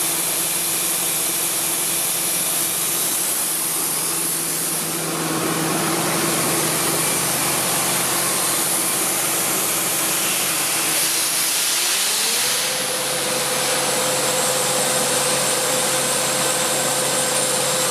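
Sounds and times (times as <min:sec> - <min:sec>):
air compressor whirring and hissing: 0:00.0 - 0:17.9.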